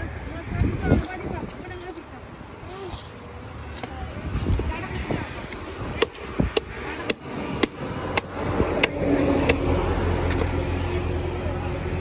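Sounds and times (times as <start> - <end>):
passing vehicle engine hum: 0.0 - 12.0.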